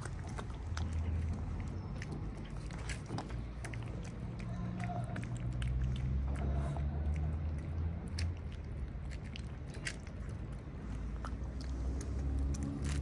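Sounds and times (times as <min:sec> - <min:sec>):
cat chewing wet food: 0:00.0 - 0:13.0.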